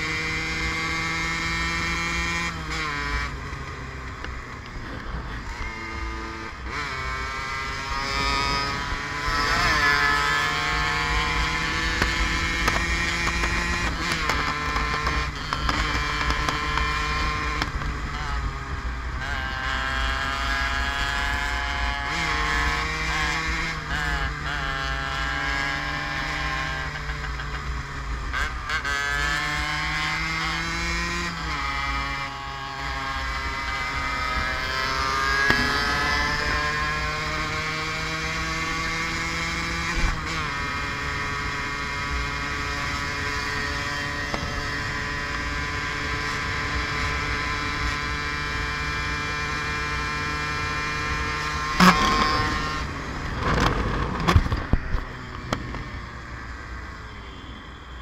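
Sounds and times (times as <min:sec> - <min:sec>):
two-stroke motorbike engine: 0:00.0 - 0:56.7.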